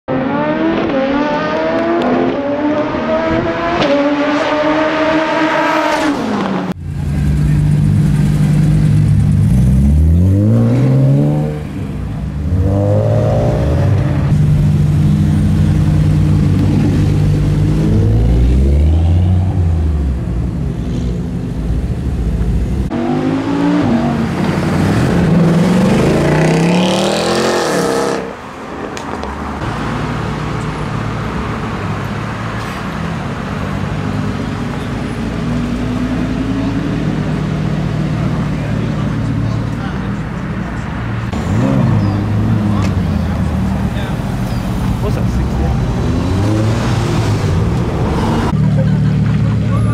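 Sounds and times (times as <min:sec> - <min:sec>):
car engines revving: 0:00.1 - 0:49.9.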